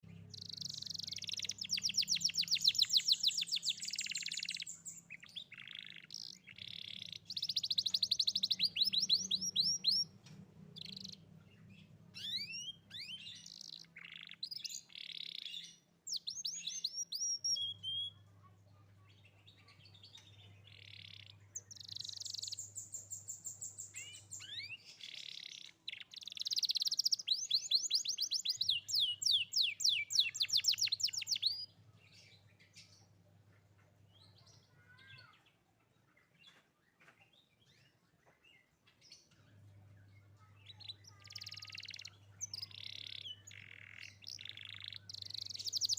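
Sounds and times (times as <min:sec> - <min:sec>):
canary singing trills: 0:00.0 - 0:35.4, 0:38.6 - 0:45.9.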